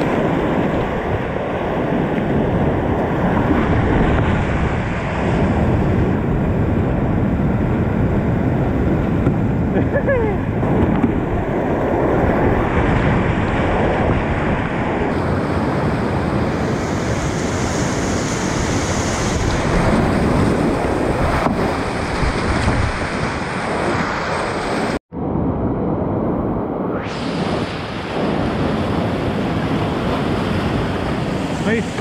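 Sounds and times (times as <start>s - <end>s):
air buffeting microphone: 0.0s - 32.0s.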